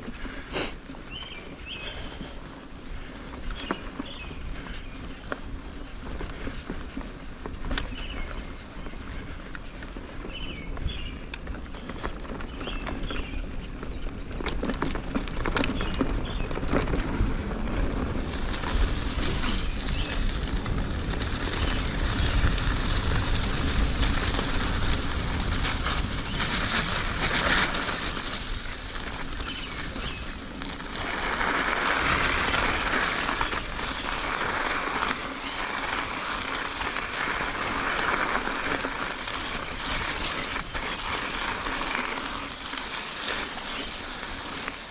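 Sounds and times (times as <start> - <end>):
bike tyres rolling on dirt: 0.0 - 44.9
wind rumbling on microphone: 0.0 - 44.9.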